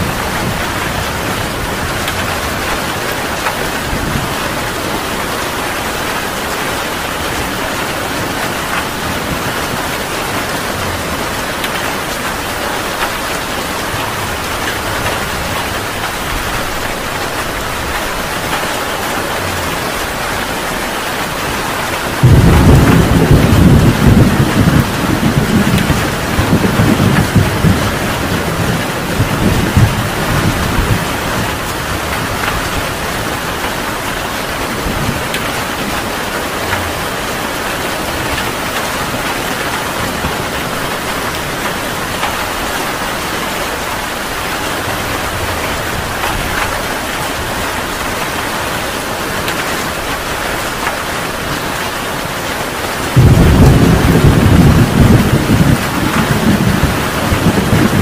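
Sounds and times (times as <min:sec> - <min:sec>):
thunder rumbling: 0:00.0 - 0:48.4, 0:52.8 - 0:58.0
heavy rain falling: 0:00.0 - 0:58.0.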